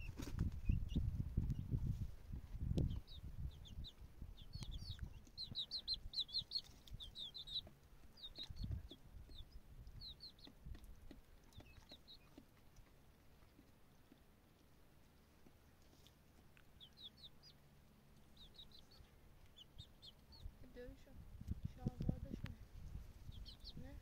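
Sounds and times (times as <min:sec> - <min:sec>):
birds chirping: 0:00.0 - 0:01.8, 0:02.6 - 0:24.0.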